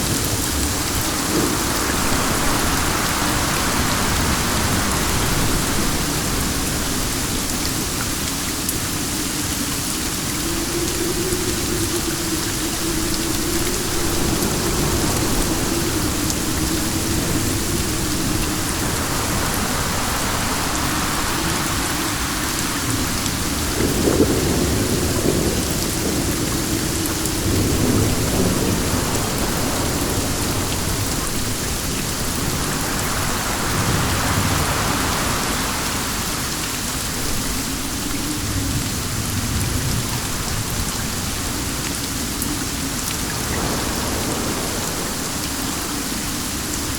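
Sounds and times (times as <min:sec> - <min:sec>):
low thunder rumble: 0:00.0 - 0:36.4, 0:37.1 - 0:46.9
steady rain: 0:00.0 - 0:46.9
wind: 0:00.0 - 0:46.9.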